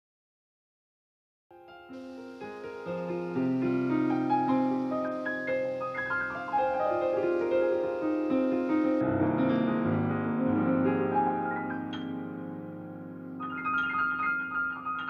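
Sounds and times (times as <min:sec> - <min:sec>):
slow solo piano music: 0:01.6 - 0:15.0.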